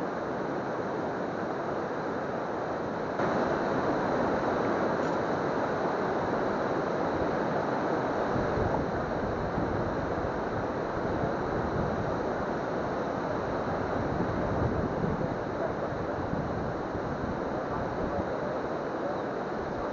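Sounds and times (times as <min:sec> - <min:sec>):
waterfall rushing: 0:03.2 - 0:19.9.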